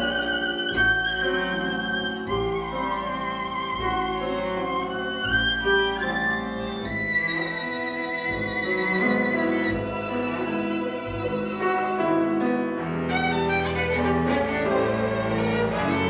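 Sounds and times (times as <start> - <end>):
lower string accompaniment: 0.0 - 16.0
violin melody with vibrato: 0.0 - 16.0.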